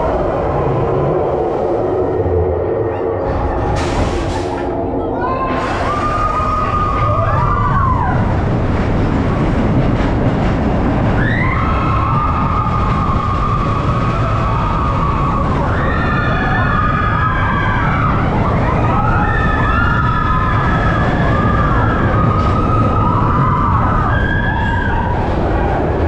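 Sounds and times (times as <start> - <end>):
roller coaster rumbling on track: 0.0 - 26.0.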